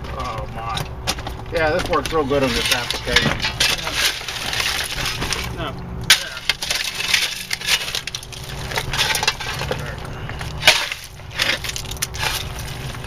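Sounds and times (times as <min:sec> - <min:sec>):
stones clattering and knocking: 0:00.1 - 0:13.0.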